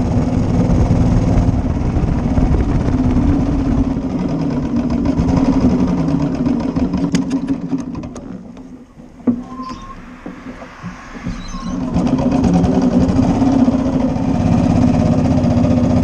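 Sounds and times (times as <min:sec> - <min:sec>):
motorcycle engine running: 0:00.0 - 0:08.8, 0:11.9 - 0:16.0.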